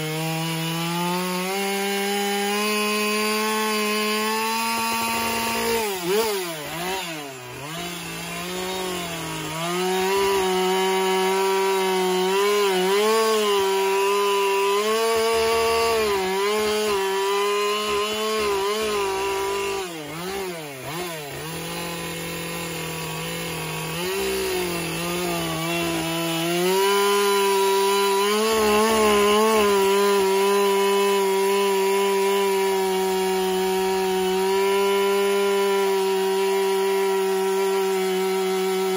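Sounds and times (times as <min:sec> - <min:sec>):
chainsaw carving wood: 0:00.0 - 0:38.9.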